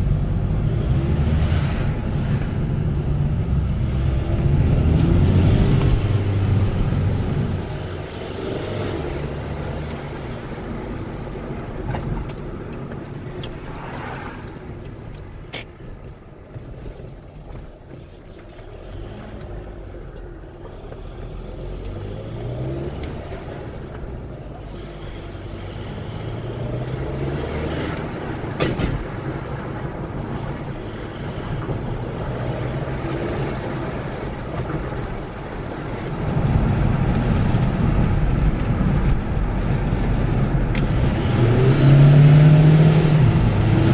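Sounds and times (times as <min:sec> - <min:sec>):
diesel car engine under power: 0:00.0 - 0:43.9.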